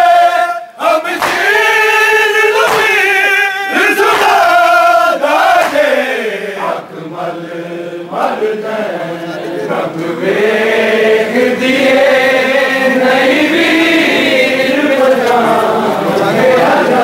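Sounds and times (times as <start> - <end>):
crowd chanting a lament: 0.0 - 17.0.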